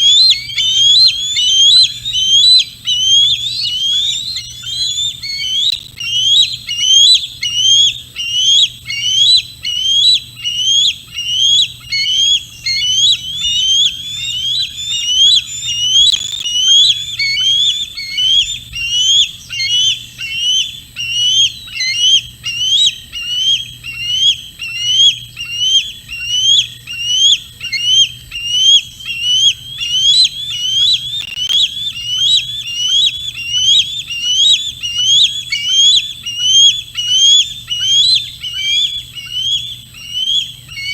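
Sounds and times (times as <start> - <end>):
bird calling: 0.0 - 40.9.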